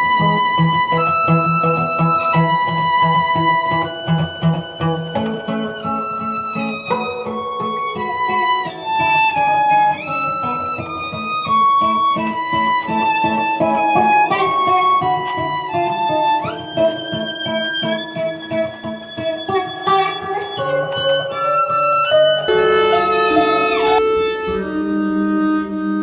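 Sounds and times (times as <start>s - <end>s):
plucked acoustic guitar: 0.0s - 26.0s
violin melody: 0.0s - 26.0s.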